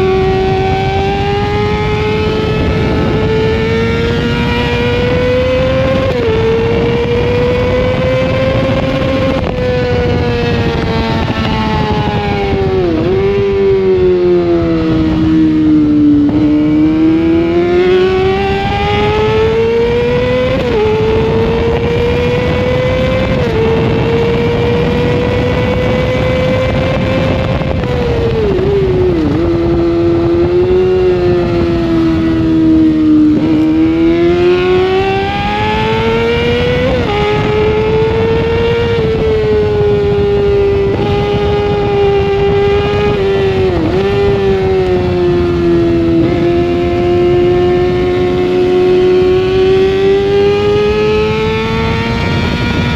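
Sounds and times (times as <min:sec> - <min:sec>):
sportbike engine revving: 0:00.0 - 0:52.9.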